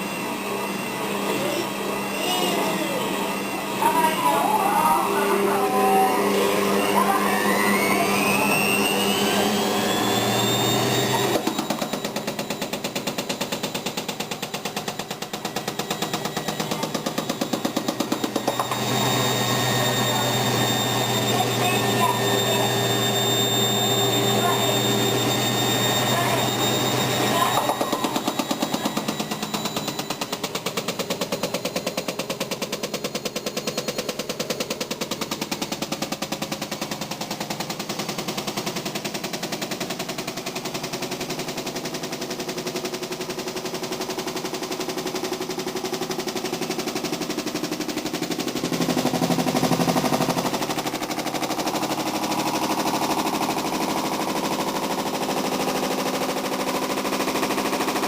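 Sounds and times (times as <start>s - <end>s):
washing machine whine: 0.0s - 58.0s.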